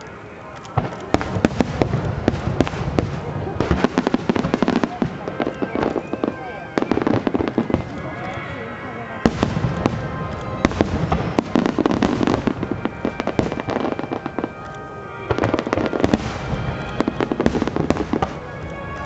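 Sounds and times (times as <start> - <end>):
firework bangs and crackles: 0.4 - 19.0.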